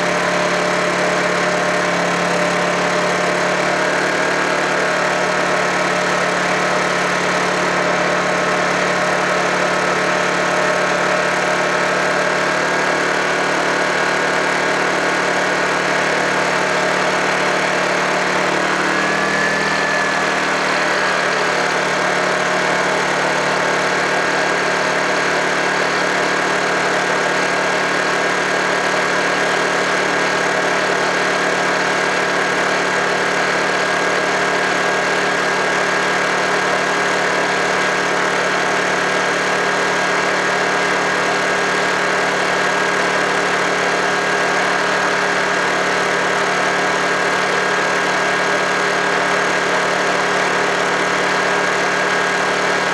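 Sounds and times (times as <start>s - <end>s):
generator engine running: 0.0s - 52.9s.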